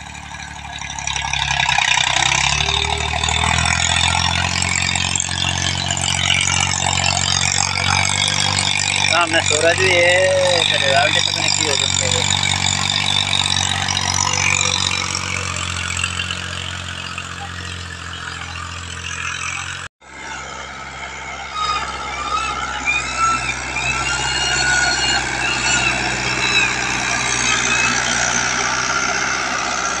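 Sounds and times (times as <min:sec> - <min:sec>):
closer tractor engine: 0:00.0 - 0:30.0
tractor diesel engines running: 0:00.0 - 0:30.0.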